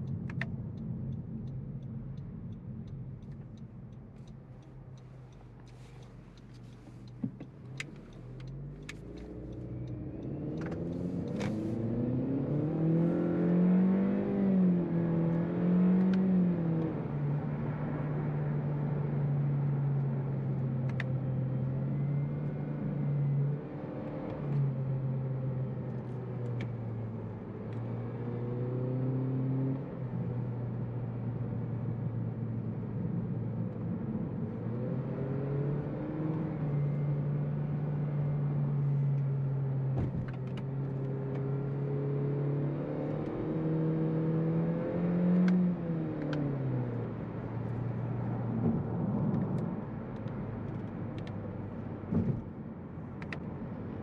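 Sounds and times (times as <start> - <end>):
car engine accelerating: 4.6 - 54.0.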